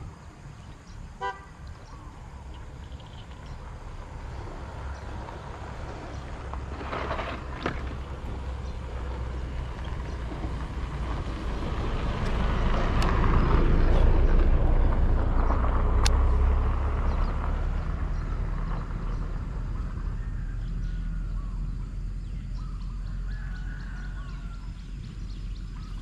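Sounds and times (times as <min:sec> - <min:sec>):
vehicle engine rumble passing by: 0:00.0 - 0:26.0.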